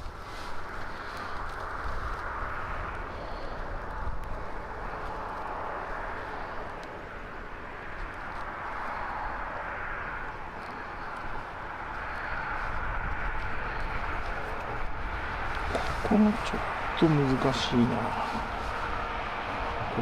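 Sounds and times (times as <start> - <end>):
even outdoor hiss: 0.0 - 20.0.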